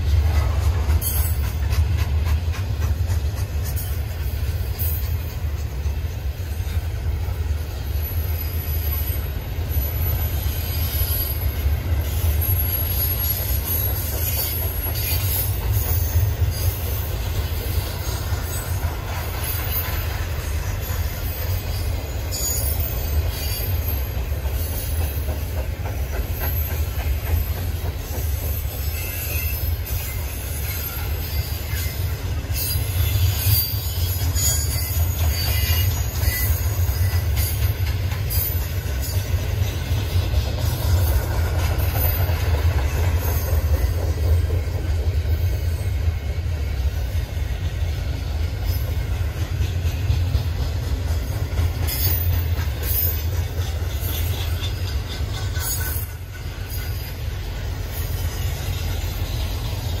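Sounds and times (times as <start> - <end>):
freight train rumbling: 0.0 - 60.0
train wheels clicking and squealing: 0.0 - 60.0.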